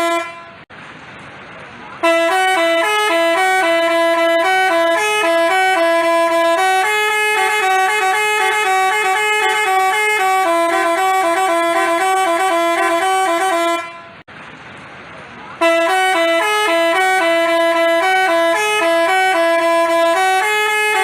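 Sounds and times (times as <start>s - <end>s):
multi-trumpet bus horn melody: 0.0s - 0.7s, 2.0s - 14.3s, 15.6s - 21.0s.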